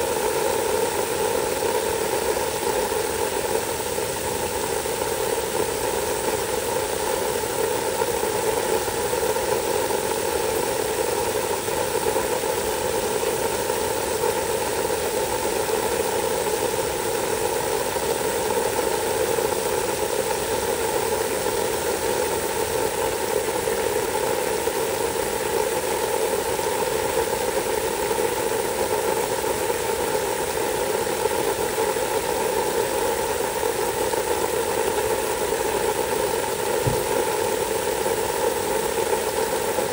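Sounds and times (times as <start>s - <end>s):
water spraying onto mulch: 0.1s - 39.9s.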